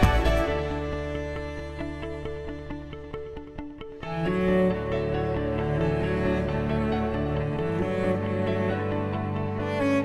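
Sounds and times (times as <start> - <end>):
slow sad string music: 0.0 - 10.0.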